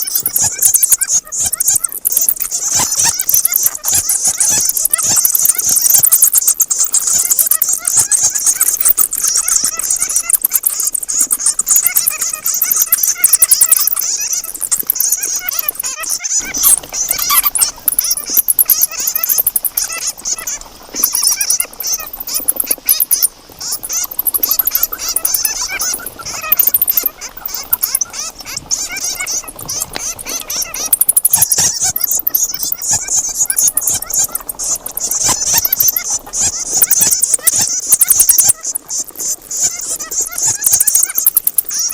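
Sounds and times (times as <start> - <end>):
bats chattering: 0.0 - 41.9.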